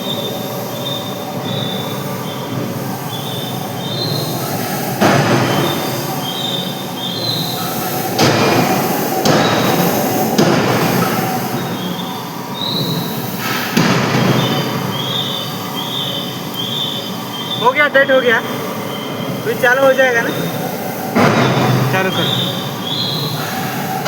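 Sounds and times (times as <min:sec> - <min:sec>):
forging machinery noise: 0:00.0 - 0:24.0
high metallic squeals: 0:00.0 - 0:24.0.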